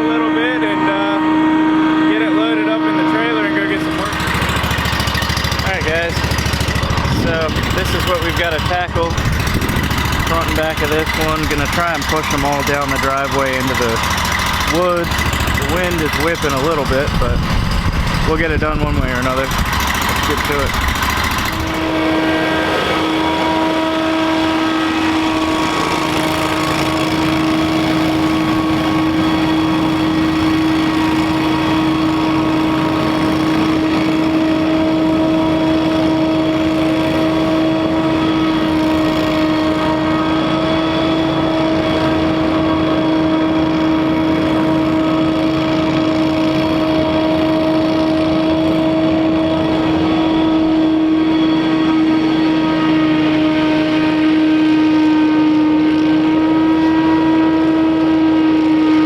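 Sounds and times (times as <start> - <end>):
blower engine drone: 0.0 - 59.0
blower fan whine: 0.0 - 59.0.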